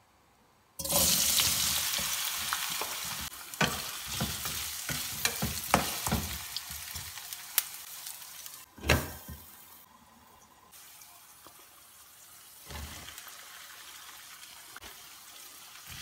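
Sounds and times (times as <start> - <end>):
potatoes sizzling in hot oil: 0.8 - 9.9, 10.7 - 16.0.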